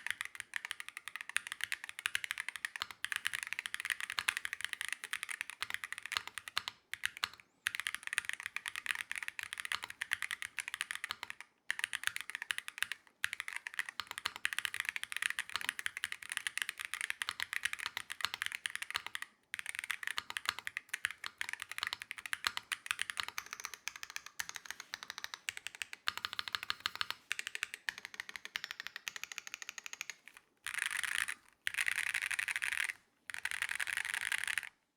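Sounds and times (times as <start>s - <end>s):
mechanical keyboard clacks: 0.0s - 34.7s.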